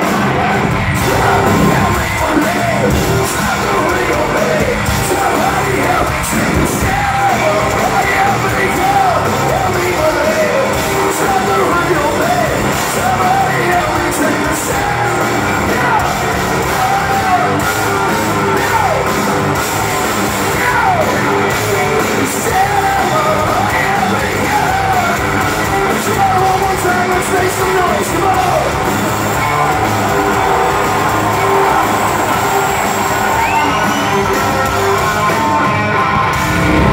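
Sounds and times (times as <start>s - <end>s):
crowd singing along and yelling: 0.0s - 36.9s
live rock band with singer: 0.0s - 36.9s.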